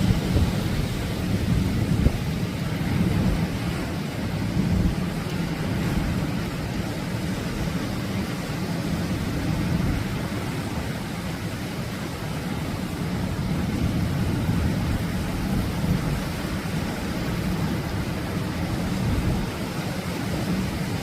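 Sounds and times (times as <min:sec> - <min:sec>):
surf breaking on shore: 0:00.0 - 0:21.0.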